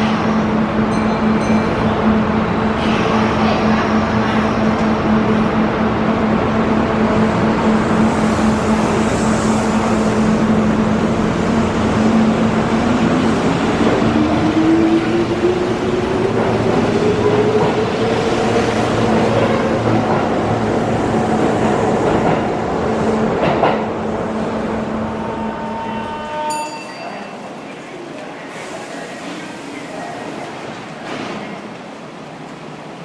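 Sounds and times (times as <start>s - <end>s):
electric train hum: 0.0s - 33.0s.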